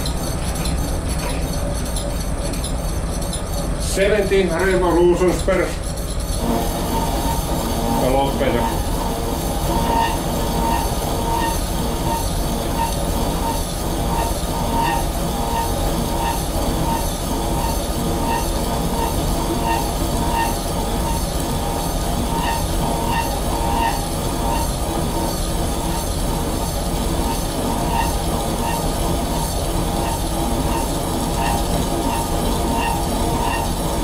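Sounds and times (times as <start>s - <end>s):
saw grinding into steel: 0.0s - 34.0s
faint pulsing squeal: 5.2s - 34.0s.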